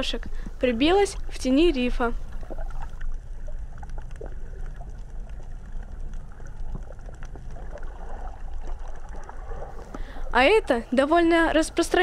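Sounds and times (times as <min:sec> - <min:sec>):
faint underwater clicks: 0:00.0 - 0:10.4
muffled underwater rumble: 0:00.0 - 0:10.7.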